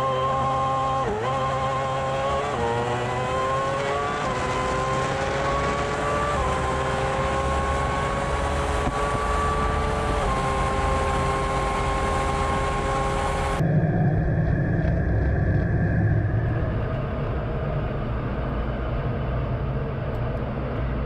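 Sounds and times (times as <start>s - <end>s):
racing engine accelerating through gears: 0.0s - 21.0s.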